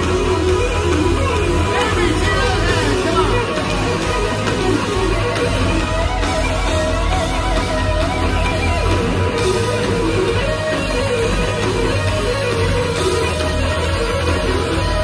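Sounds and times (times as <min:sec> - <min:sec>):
heavy metal band playing: 0:00.0 - 0:15.0
melodic electric guitar line: 0:00.0 - 0:15.0.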